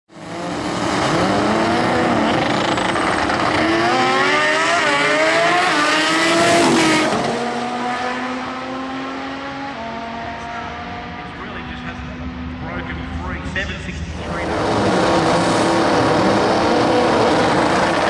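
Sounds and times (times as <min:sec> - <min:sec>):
drag racing engines revving: 0:00.1 - 0:18.0.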